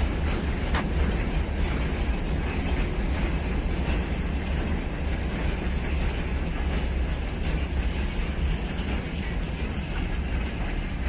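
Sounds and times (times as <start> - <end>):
wagon wheels rumbling on rail: 0.0 - 11.0.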